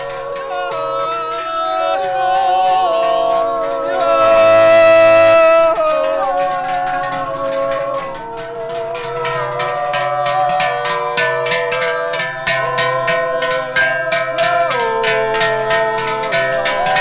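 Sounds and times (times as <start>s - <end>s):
voices yodeling in harmony: 0.0s - 17.0s.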